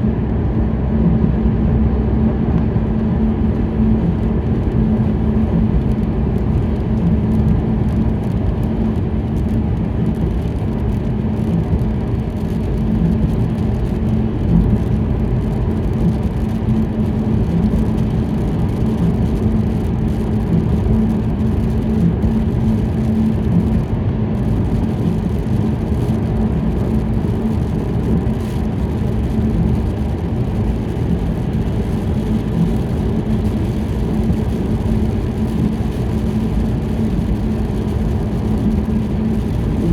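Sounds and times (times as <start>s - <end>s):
car driving on wet road: 0.0s - 39.9s
constant low hum: 0.0s - 39.9s.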